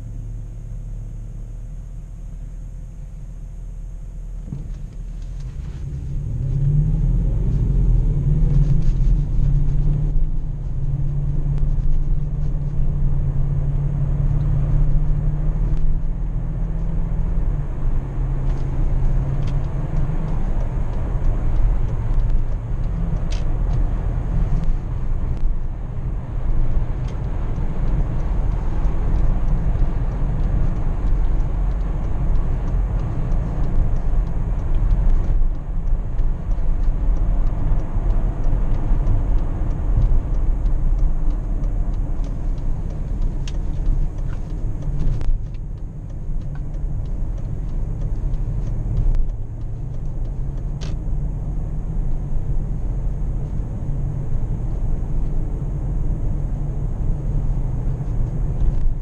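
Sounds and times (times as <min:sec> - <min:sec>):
car engine accelerating: 0:00.0 - 0:59.0
tyre and road noise: 0:03.0 - 0:59.0.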